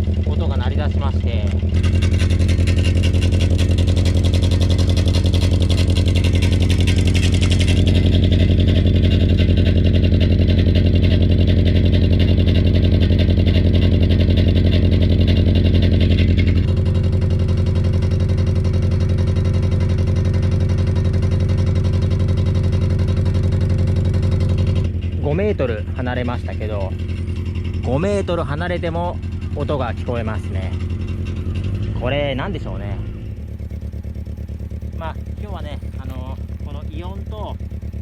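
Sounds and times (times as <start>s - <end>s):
engine idling with clattering rattle: 0.0s - 38.0s.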